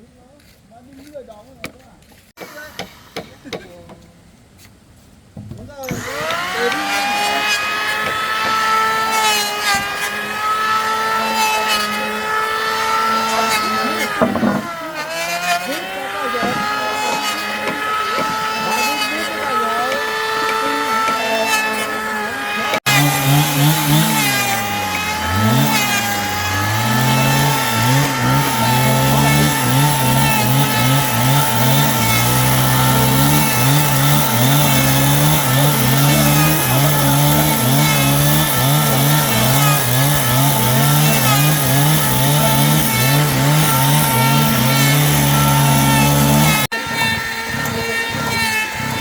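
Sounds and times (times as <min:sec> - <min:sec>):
power tool motor cutting wood: 0:02.4 - 0:03.9, 0:05.8 - 0:49.0.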